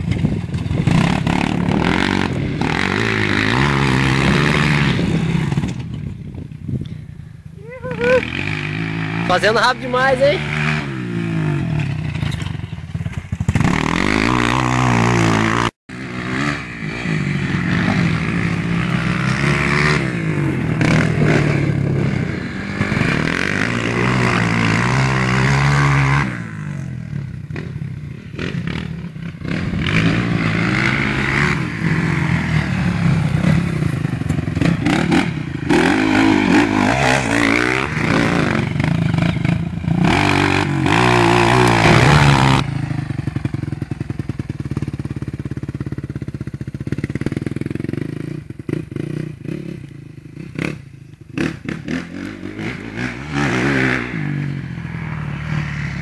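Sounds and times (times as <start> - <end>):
dirt bike engine revving: 0.6 - 5.9, 7.7 - 56.0.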